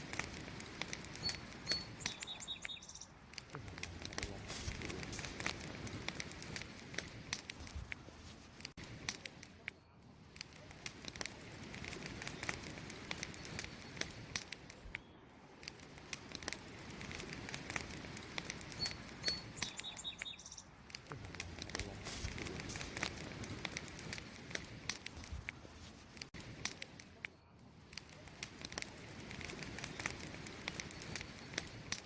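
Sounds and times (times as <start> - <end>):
wood campfire crackling: 0.0 - 32.0.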